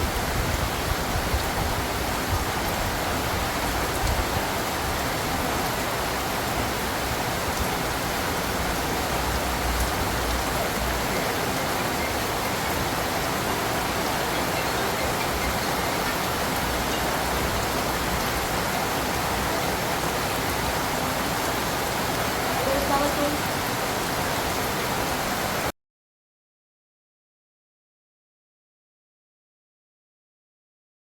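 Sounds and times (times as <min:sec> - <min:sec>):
steady rain falling: 0:00.0 - 0:25.7.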